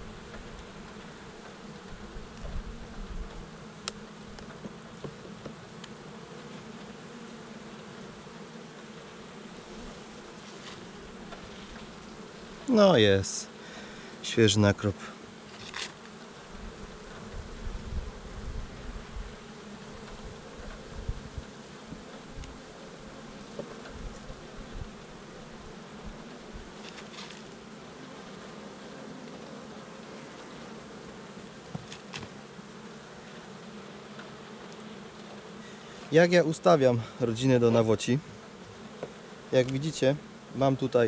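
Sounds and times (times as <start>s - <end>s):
honeybees buzzing: 0.0s - 41.0s.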